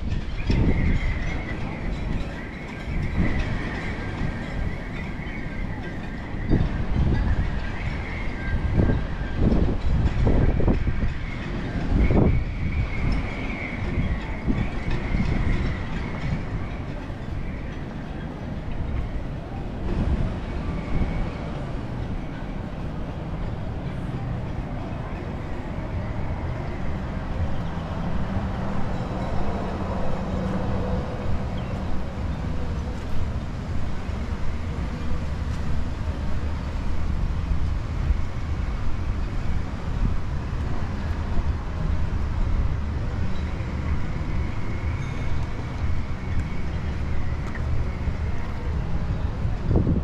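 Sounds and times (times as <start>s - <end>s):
traffic noise: 0.0s - 50.0s.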